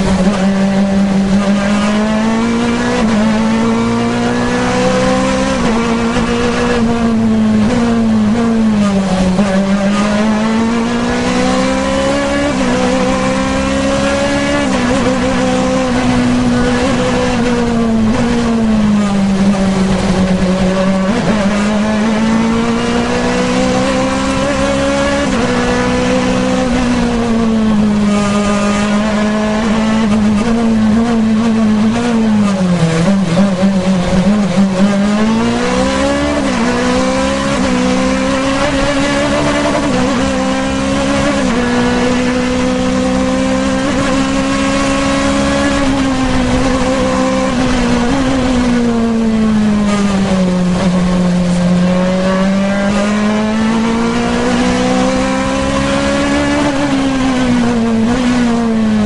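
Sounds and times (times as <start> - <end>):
racing engine accelerating: 0.0 - 59.0.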